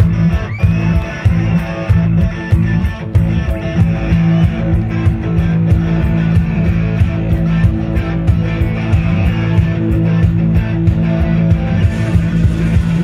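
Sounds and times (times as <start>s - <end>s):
bass guitar: 0.0s - 13.0s
drums: 0.0s - 13.0s
electric guitars: 0.0s - 13.0s
steady cymbal beat: 0.0s - 13.0s.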